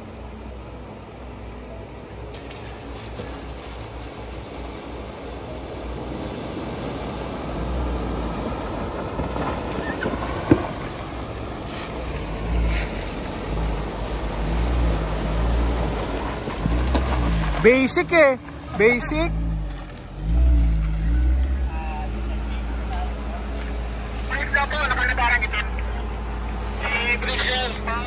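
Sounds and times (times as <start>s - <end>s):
vehicle rumble: 0.0s - 28.0s.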